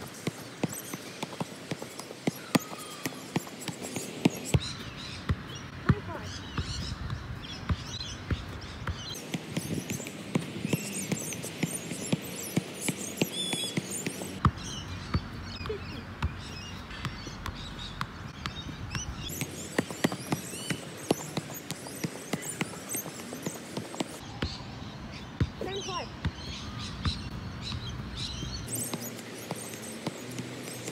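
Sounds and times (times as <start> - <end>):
soccer ball thumps: 0.2 - 24.6, 25.4 - 30.9.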